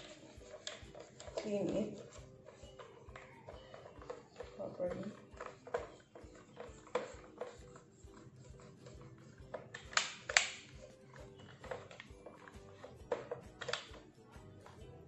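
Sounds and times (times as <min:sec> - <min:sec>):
plastic scraping rasps: 0:00.0 - 0:14.1
plastic parts clicking: 0:00.0 - 0:14.8
faint background music: 0:00.0 - 0:15.0.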